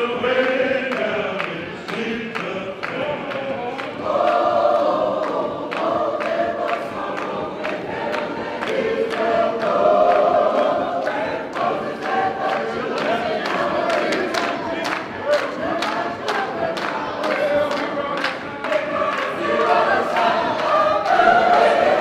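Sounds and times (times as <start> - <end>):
congregation singing: 0.0 - 22.0
people clapping in time: 0.0 - 22.0.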